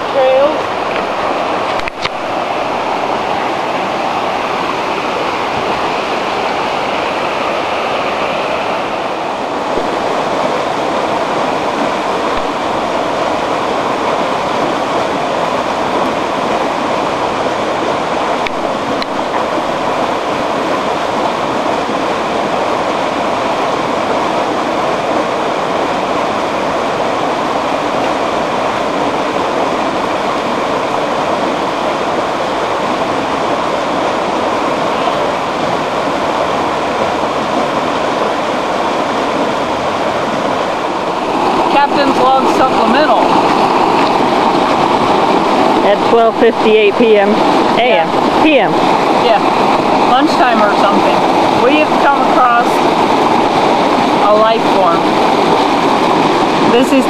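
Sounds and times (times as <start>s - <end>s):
river rushing over rapids: 0.0s - 57.0s.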